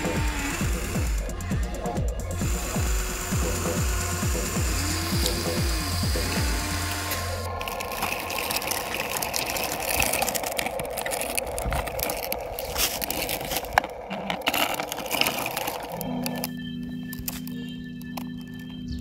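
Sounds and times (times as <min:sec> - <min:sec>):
music: 0:00.0 - 0:19.0
toy truck wheels crunching on dirt: 0:00.0 - 0:19.0.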